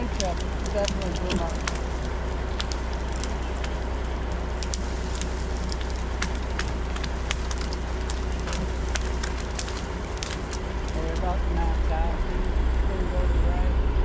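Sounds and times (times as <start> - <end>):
sharp crackles and clicks: 0.0 - 12.9
heavy machine engine idling: 0.0 - 14.0.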